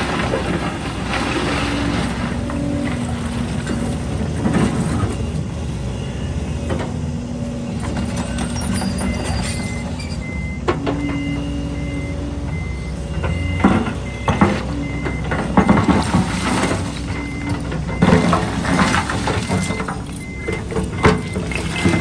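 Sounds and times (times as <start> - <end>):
diesel machinery running: 0.0 - 22.0
reversing alarm beeping: 1.7 - 22.0.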